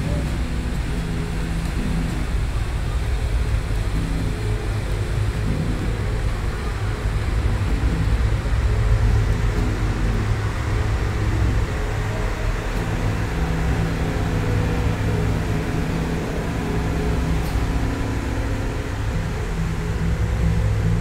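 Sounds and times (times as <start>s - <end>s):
boat engine droning: 0.0s - 21.0s
rushing water and wind: 0.0s - 21.0s.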